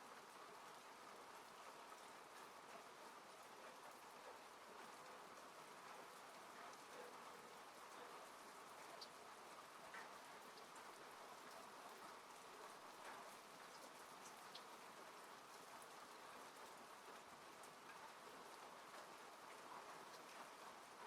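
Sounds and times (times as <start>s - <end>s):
rain falling on a car: 0.0s - 21.0s.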